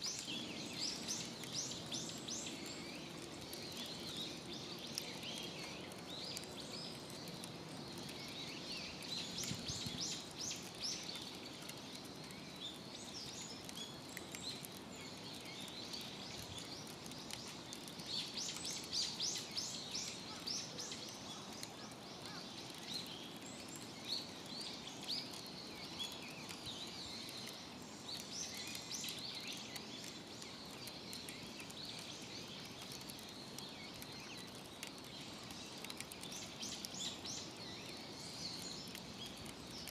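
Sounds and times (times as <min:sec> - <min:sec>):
birds chirping: 0:00.0 - 0:39.9
outdoor background hiss: 0:00.0 - 0:39.9.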